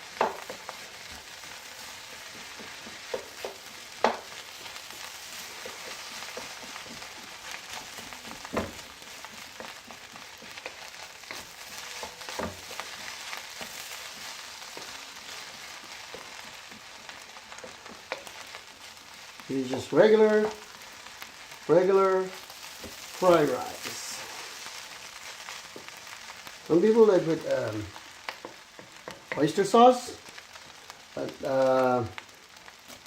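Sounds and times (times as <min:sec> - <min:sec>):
rice sizzling in a pan: 0:00.0 - 0:33.0.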